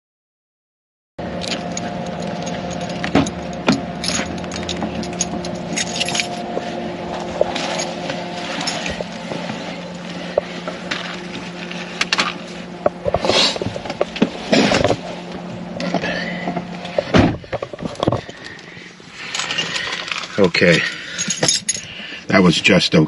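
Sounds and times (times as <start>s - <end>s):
electrical hum: 1.2s - 23.0s.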